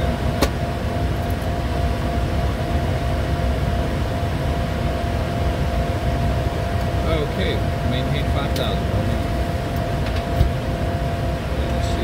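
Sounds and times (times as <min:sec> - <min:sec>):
faint steady hums: 0:00.0 - 0:12.0
jet engine rumble: 0:00.0 - 0:12.0.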